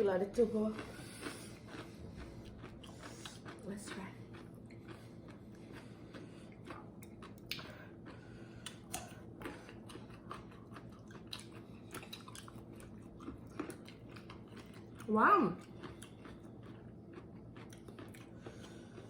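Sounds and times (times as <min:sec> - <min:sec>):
person chewing crunchy food: 0:00.4 - 0:19.0.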